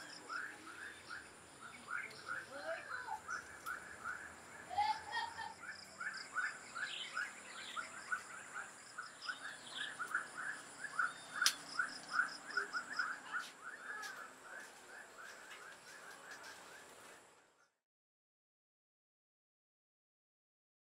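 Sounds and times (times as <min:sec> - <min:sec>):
higher bird chirps: 0:00.0 - 0:16.9.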